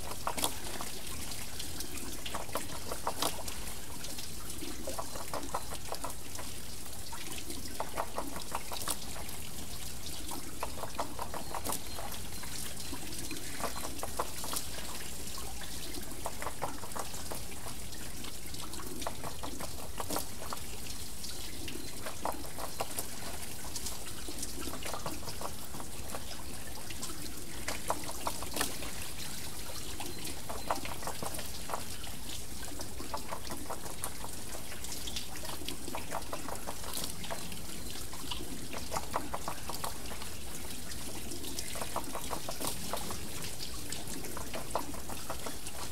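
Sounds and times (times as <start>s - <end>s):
water pouring and trickling: 0.0s - 45.9s.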